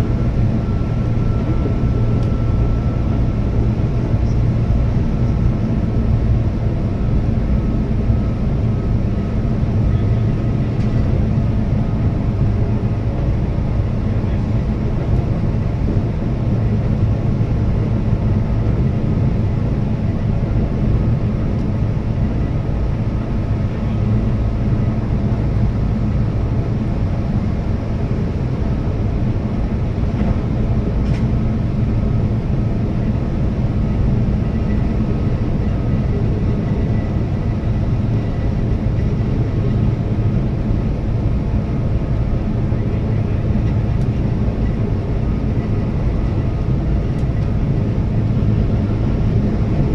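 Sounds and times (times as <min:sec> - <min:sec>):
faint train whine: 0:00.0 - 0:49.9
train wheels rumbling on rail: 0:00.0 - 0:49.9.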